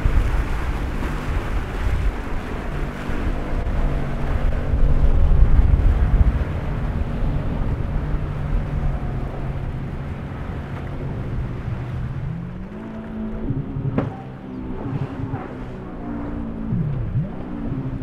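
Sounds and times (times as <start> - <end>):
low rumble of wind and water: 0.0 - 18.0
outboard motor running at high speed: 0.0 - 18.0.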